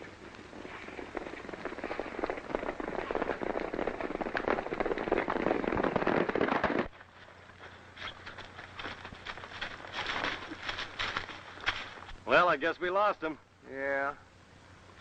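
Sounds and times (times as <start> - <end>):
horses galloping: 0.0 - 13.2.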